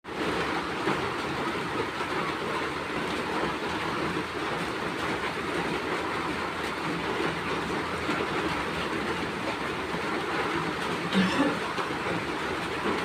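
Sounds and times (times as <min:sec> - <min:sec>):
train carriage rumbling and rattling: 0:00.4 - 0:13.0.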